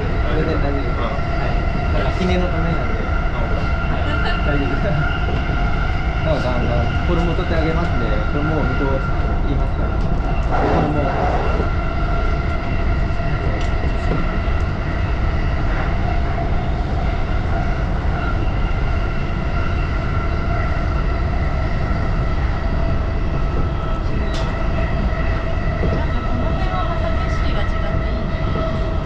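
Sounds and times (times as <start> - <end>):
train running gear whine: 0.0 - 29.0
train wheels rumbling on rails: 0.0 - 29.0.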